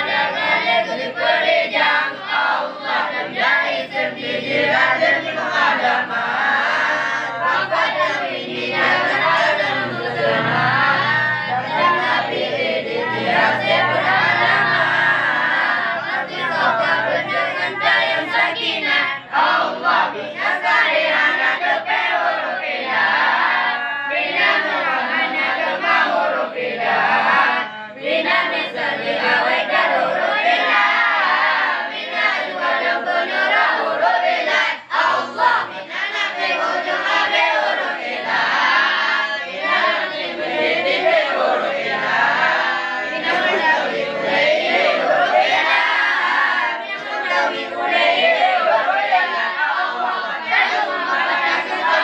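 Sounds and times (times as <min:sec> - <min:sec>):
young men chanting in unison: 0:00.0 - 0:52.0.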